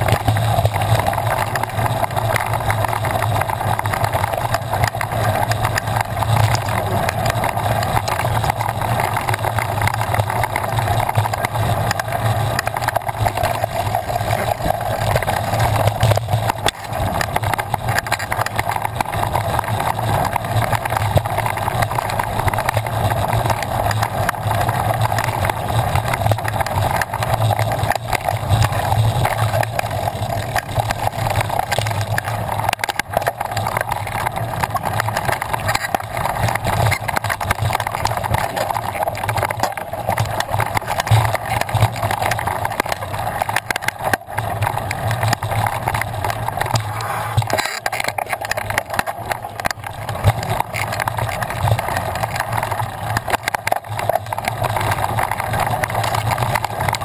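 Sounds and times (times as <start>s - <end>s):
bike rattles and knocks: 0.0s - 57.0s
bike tyre noise: 0.0s - 57.0s.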